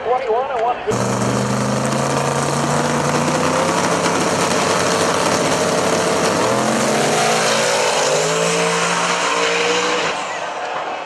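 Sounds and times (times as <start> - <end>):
race car engine running: 0.9 - 10.4.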